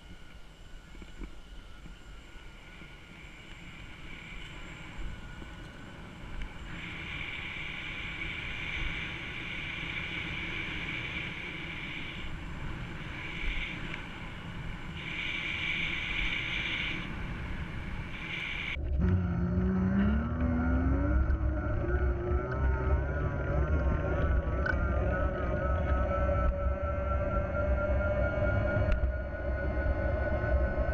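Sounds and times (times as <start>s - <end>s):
electric bike motor whine: 0.0s - 30.9s
wind noise: 0.0s - 30.9s.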